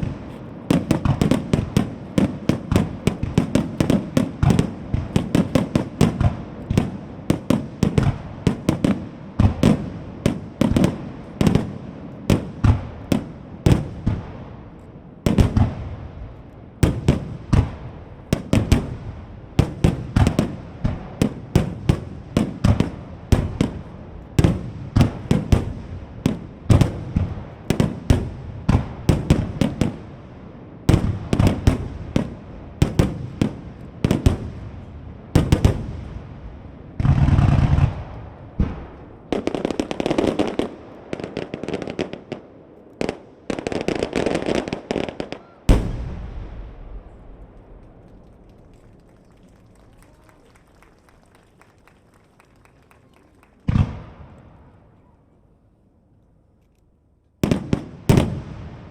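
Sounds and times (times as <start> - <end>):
fireworks launching and bursting: 0.0 - 50.3, 53.6 - 54.8, 57.4 - 58.9.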